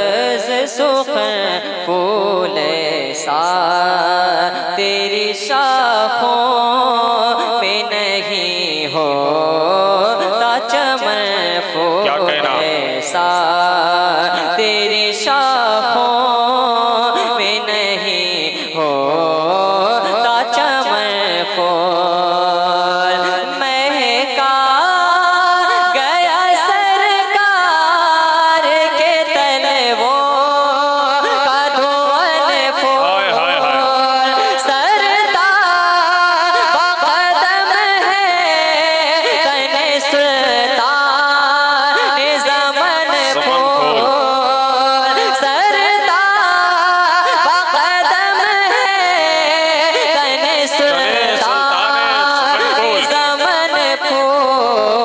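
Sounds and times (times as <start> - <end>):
young man singing into microphone: 0.0 - 55.0.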